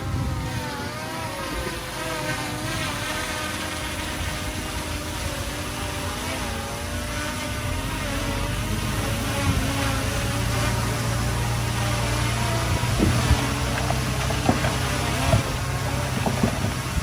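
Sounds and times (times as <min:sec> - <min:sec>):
diesel engine running under work: 0:00.0 - 0:00.7, 0:01.4 - 0:17.0.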